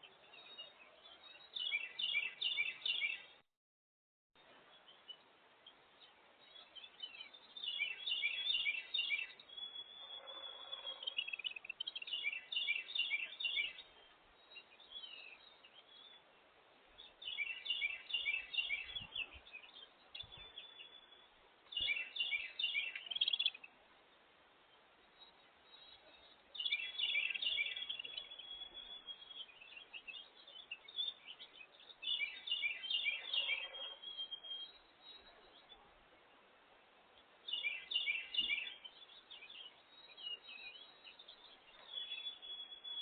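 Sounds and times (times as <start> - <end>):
songbird singing: 0.0 - 3.4, 4.4 - 43.0.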